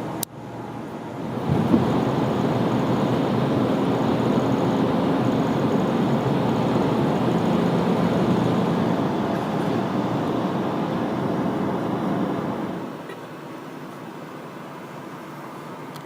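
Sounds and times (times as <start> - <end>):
vehicle rumble and hiss: 0.0 - 16.0.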